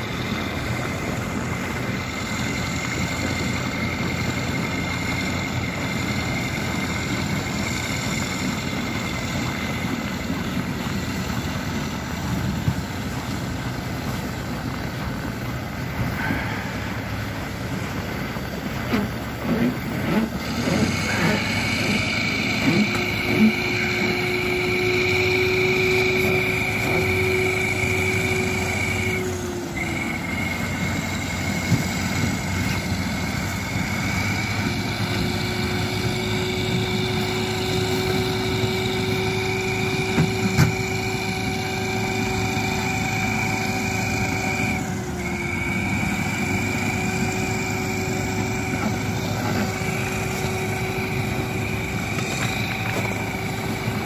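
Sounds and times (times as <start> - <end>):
heavy diesel engines droning: 0.0 - 54.0
steady high whine: 0.0 - 54.0.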